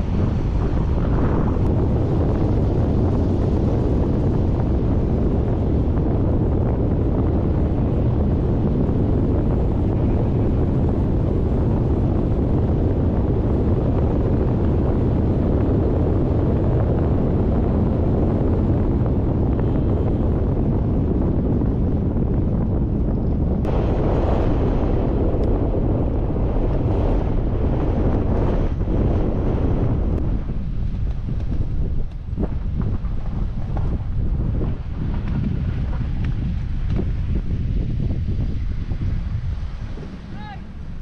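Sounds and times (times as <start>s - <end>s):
low road rumble: 0.0s - 41.0s
wind buffeting microphone: 0.0s - 41.0s.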